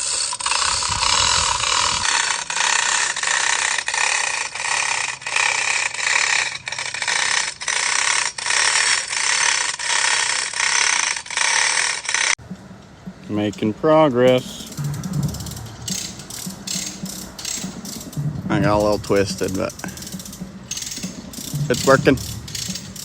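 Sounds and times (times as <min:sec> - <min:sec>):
chain rattling through hoist: 0:00.0 - 0:12.4, 0:14.2 - 0:23.0
hoist pawl clicking: 0:00.0 - 0:23.0.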